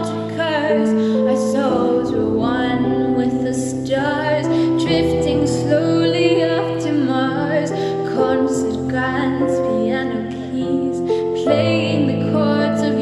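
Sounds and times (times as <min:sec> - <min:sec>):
woman singing ballad: 0:00.0 - 0:13.0.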